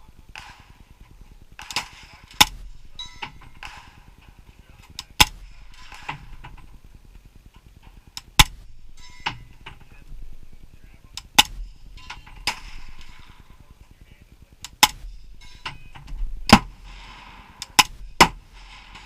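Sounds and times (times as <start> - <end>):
loud gunshots: 0.0 - 7.1, 8.2 - 13.9, 14.6 - 19.0
faint distant gunshots: 0.0 - 19.0.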